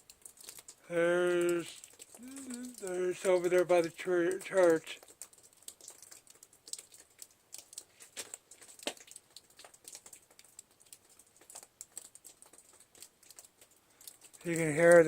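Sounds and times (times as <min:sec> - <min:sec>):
snow dripping and pattering: 0:00.0 - 0:15.0.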